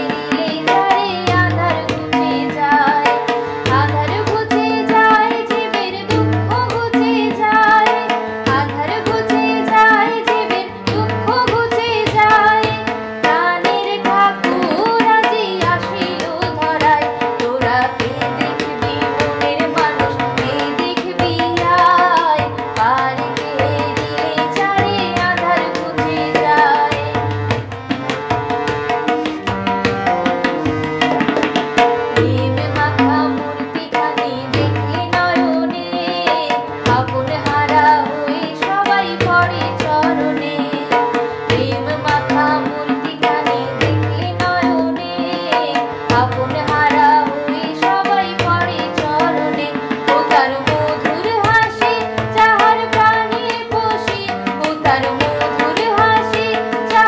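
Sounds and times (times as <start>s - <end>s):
tabla drumming: 0.0s - 57.0s
woman singing: 0.0s - 57.0s.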